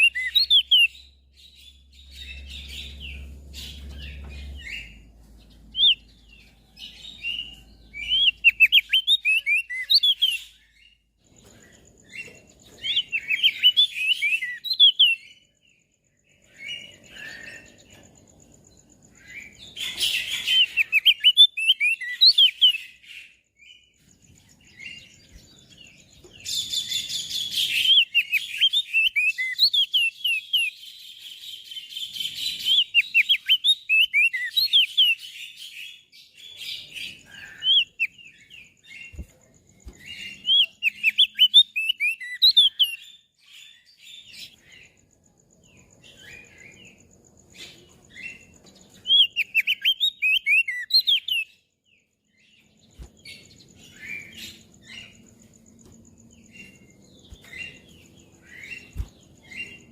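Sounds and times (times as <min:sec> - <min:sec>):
bird singing high chirps: 0:00.0 - 0:59.9.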